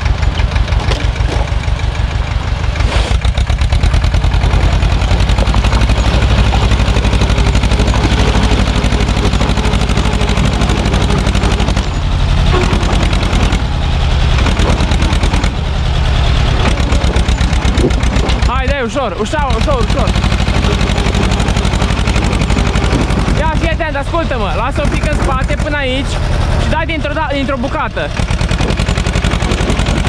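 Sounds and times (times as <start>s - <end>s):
tractor diesel engine chugging: 0.0s - 30.0s.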